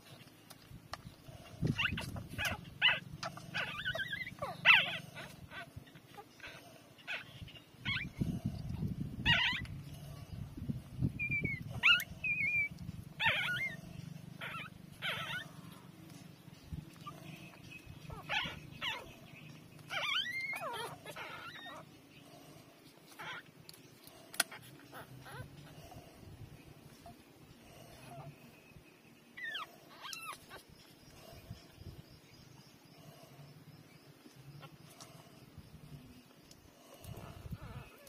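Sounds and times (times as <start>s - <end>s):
puppies squeaking and whimpering: 0.0s - 32.0s, 36.9s - 38.0s.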